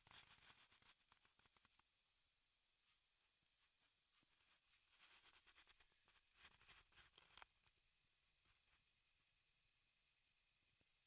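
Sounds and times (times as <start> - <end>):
low hiss: 0.0 - 11.0.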